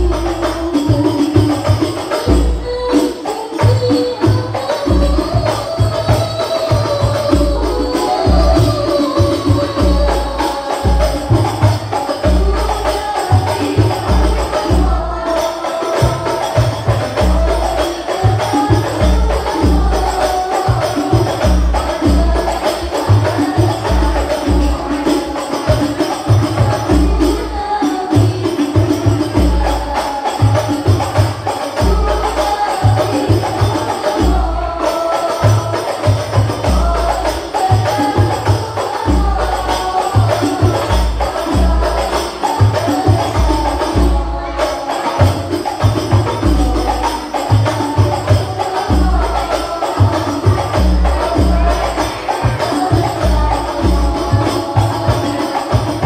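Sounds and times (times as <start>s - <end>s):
frame drums: 0.0s - 56.0s
women singing into microphones: 0.0s - 56.0s.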